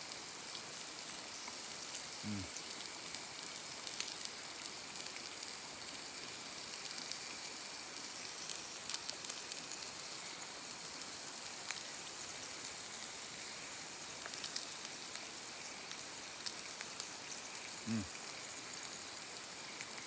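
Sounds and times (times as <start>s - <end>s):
campfire crackles and pops: 0.1s - 20.0s.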